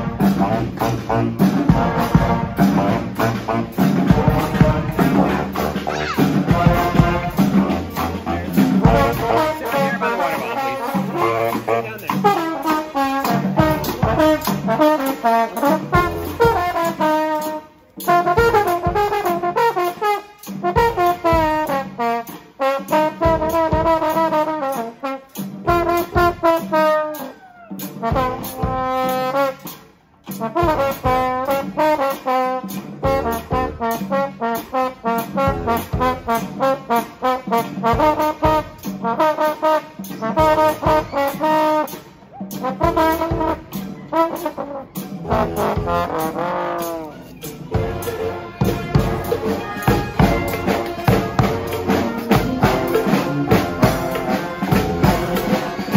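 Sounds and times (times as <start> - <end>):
brass band playing: 0.0 - 55.9
trombone playing: 0.0 - 55.9.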